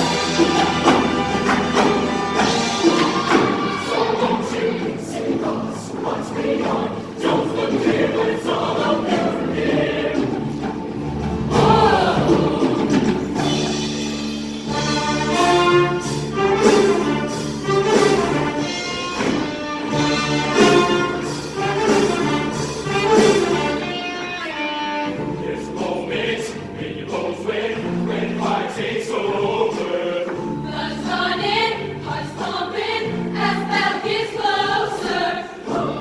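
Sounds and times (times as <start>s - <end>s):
choir singing: 0.0s - 13.8s, 14.6s - 36.0s.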